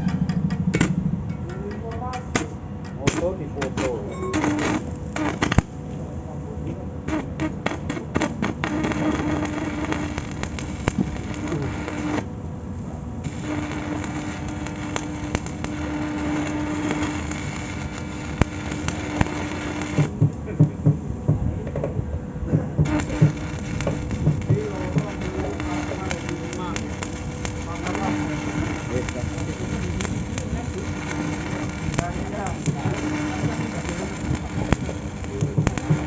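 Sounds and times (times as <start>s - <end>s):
welding arc crackling: 1.9s - 5.8s, 7.0s - 12.4s, 13.2s - 20.4s, 22.8s - 36.0s.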